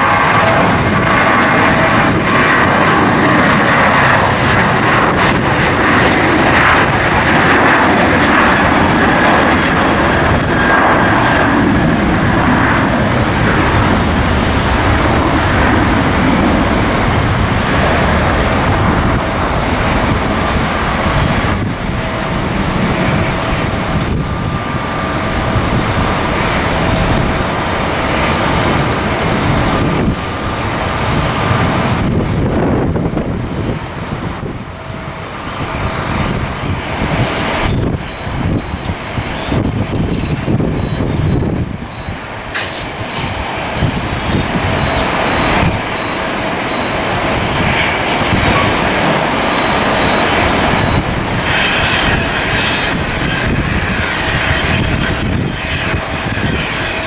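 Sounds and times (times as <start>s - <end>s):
airliner engines running: 0.0s - 57.0s
wind buffeting microphone: 0.0s - 57.0s.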